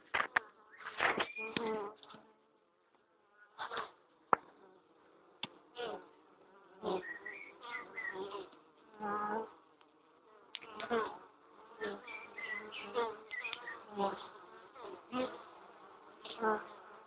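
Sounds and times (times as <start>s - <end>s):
honeybees buzzing: 0.0s - 17.0s
single bee buzzing past: 0.0s - 17.0s.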